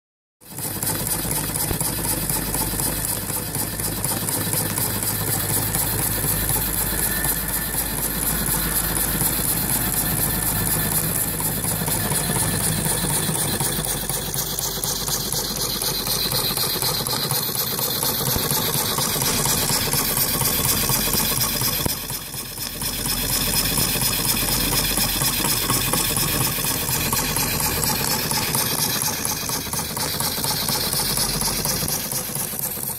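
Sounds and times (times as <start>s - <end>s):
steam engine chuffing: 0.4s - 32.9s
steam hissing: 0.8s - 32.9s.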